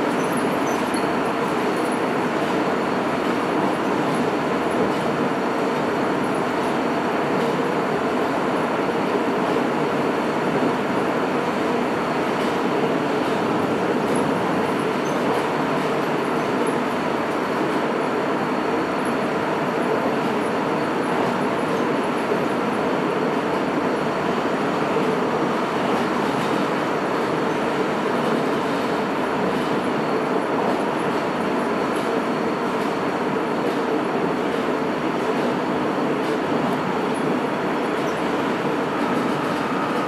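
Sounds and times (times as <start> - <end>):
subway car rumble and hiss: 0.0 - 40.0.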